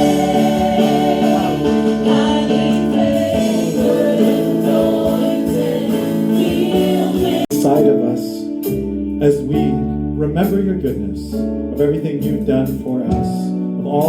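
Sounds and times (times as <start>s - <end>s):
worship music with singing: 0.0s - 14.0s.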